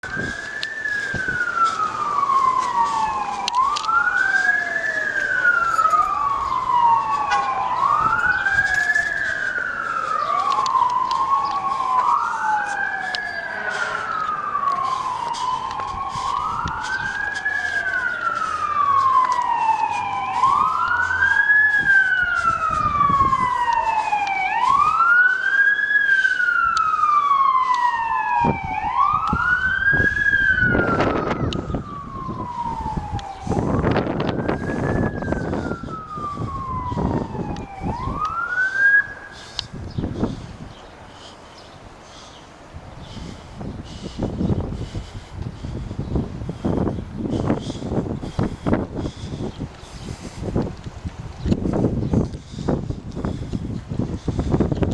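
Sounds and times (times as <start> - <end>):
fire truck sirens wailing: 0.0 - 54.9.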